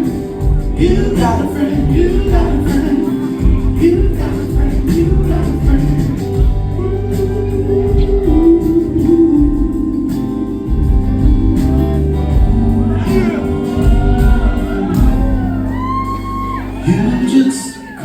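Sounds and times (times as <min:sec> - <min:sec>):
live band playing: 0:00.0 - 0:18.0
person singing: 0:00.0 - 0:18.0.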